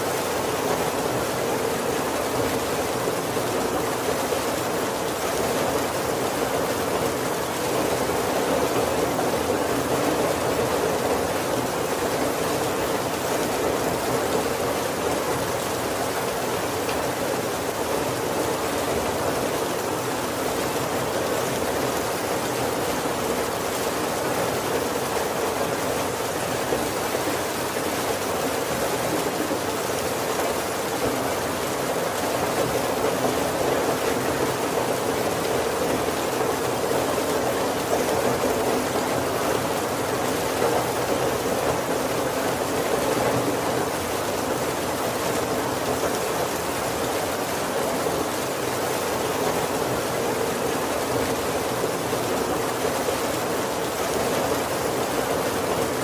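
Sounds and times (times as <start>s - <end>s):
heavy rain on roof: 0.0s - 56.0s.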